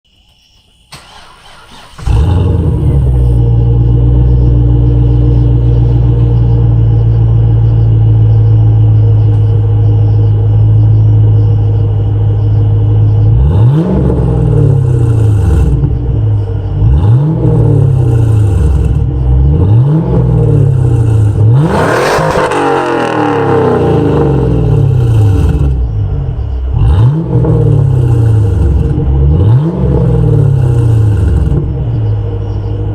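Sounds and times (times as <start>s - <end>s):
car engine idling and revving: 0.9s - 32.9s.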